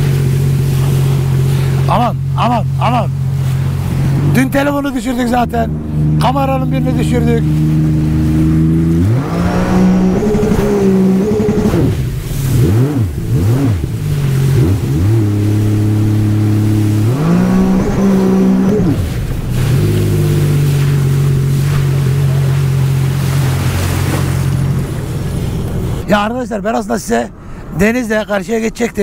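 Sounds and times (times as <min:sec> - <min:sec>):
jet ski engine: 0:00.0 - 0:29.0.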